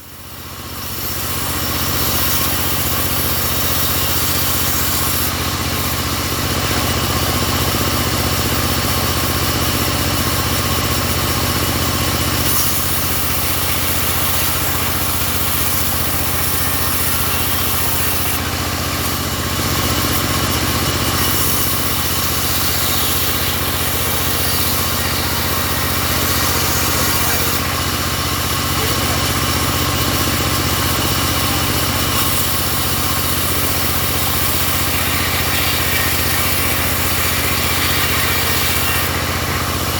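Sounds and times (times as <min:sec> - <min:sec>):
engine-driven sawmill running: 0:00.0 - 0:39.9.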